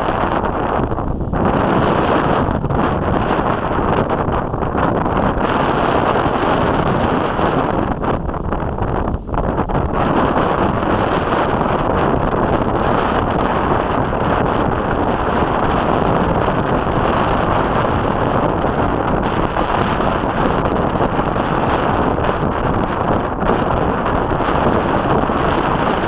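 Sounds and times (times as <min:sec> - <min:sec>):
strong wind on microphone: 0:00.0 - 0:26.0.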